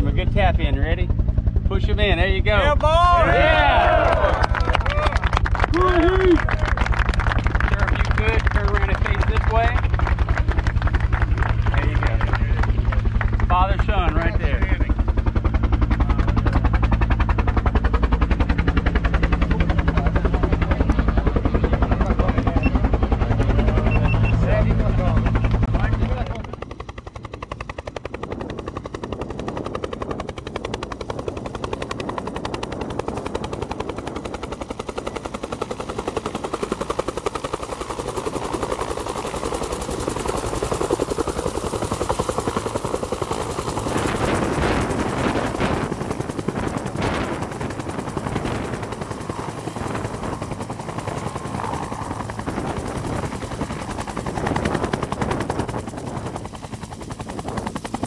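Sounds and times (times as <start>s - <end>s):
helicopter rotor chopping: 0.0s - 58.0s.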